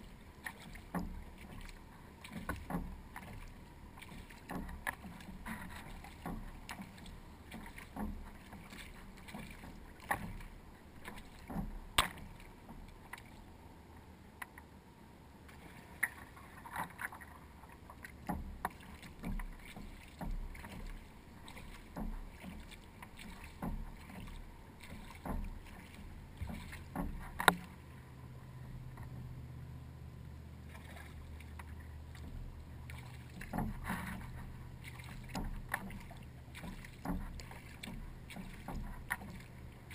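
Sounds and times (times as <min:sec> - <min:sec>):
paddle splashing in water: 0:00.0 - 0:13.8, 0:15.4 - 0:39.9.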